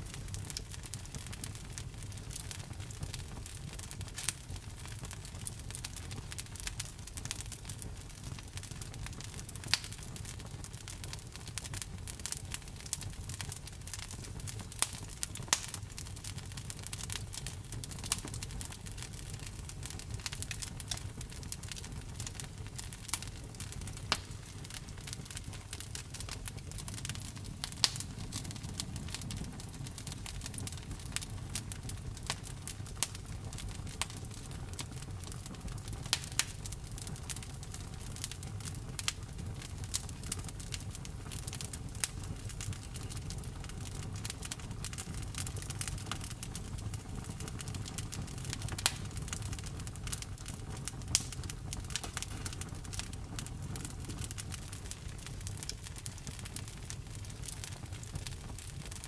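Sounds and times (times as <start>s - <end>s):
campfire crackling: 0.0s - 59.0s
fire low rumble: 0.0s - 59.0s.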